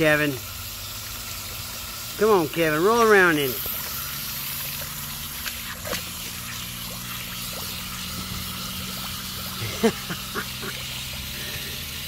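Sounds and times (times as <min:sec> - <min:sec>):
hose water splashing into puddle: 0:00.0 - 0:12.0.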